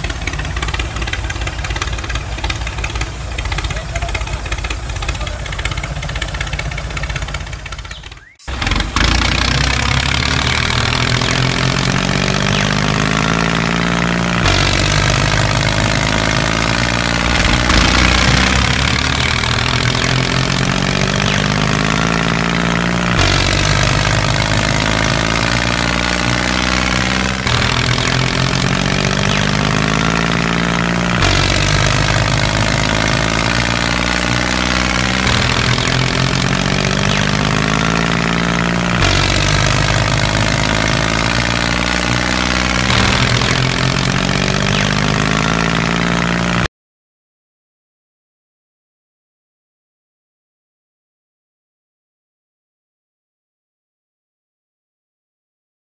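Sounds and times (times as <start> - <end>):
tractor engine running: 0.0 - 46.7.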